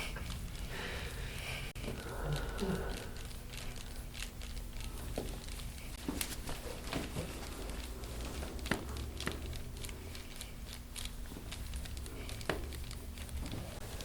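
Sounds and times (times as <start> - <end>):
low steady hum: 0.0 - 14.0
soft crinkling and rustling: 0.0 - 14.0.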